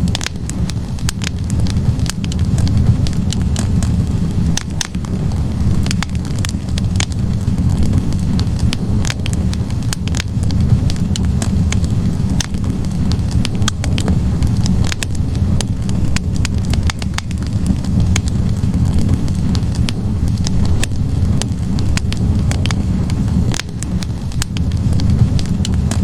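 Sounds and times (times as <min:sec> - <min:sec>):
flames rumbling: 0:00.0 - 0:26.0
wood fire crackling and popping: 0:00.0 - 0:26.0.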